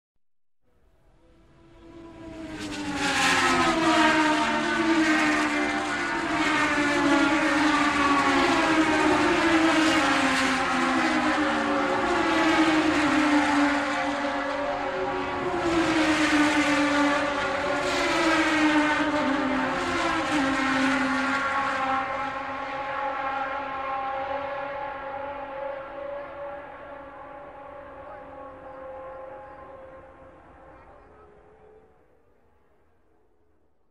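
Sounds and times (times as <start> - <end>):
racing cars passing by: 0.8 - 33.6.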